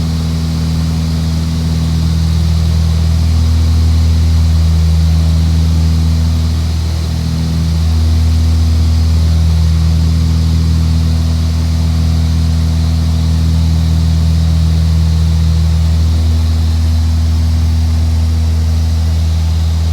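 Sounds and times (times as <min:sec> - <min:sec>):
propeller aircraft droning: 0:00.0 - 0:19.9.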